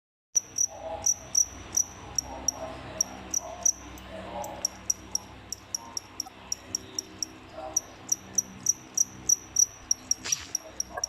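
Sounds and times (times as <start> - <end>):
cricket chirping: 0.4 - 11.0.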